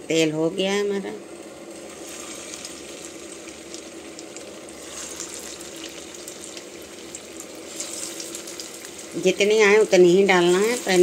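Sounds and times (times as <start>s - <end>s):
food frying in hot oil: 0.0s - 11.0s.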